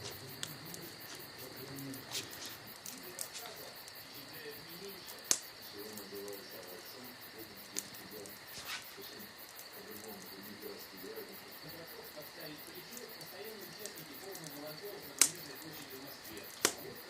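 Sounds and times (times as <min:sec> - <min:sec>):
campfire crackling: 0:00.0 - 0:17.0
crickets chirring: 0:00.0 - 0:17.0
low voices murmuring: 0:00.0 - 0:17.0
sharp fire pops: 0:00.0 - 0:17.0.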